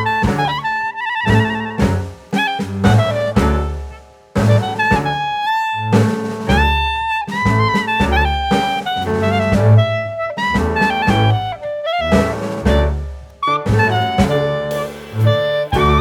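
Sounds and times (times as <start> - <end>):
upbeat jazz tune: 0.0 - 16.0.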